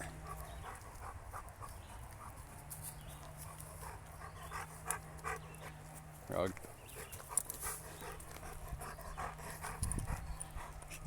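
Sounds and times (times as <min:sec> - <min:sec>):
dog panting softly: 0:00.0 - 0:11.0.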